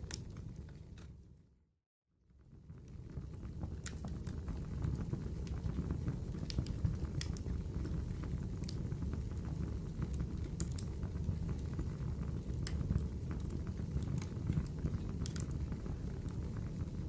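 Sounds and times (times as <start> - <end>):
fire crackles and pops: 0.0 - 1.2, 2.4 - 17.0
wood fire burning: 0.0 - 1.2, 2.4 - 17.0.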